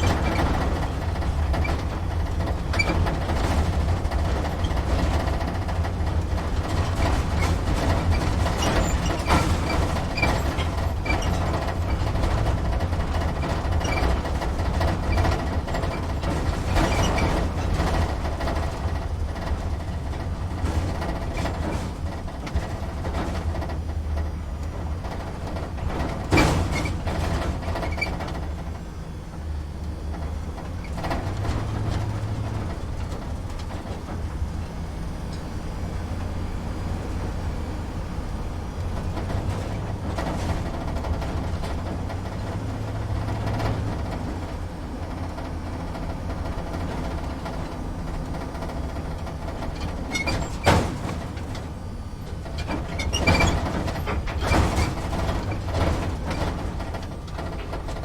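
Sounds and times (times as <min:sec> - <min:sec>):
cab rattles and knocks: 0:00.0 - 0:28.7, 0:38.8 - 0:58.0
truck engine low rumble: 0:00.0 - 0:58.0.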